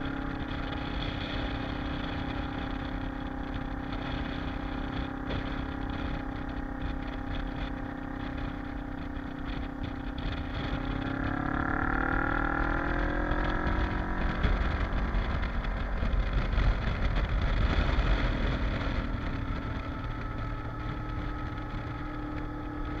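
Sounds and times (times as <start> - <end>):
gusty wind noise: 0.0 - 23.0
motorcycle engine running: 0.0 - 23.0.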